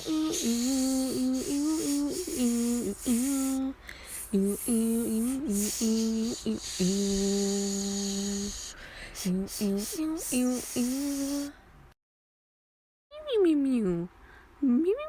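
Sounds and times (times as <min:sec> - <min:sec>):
woman humming: 0:00.0 - 0:11.5, 0:13.2 - 0:15.0.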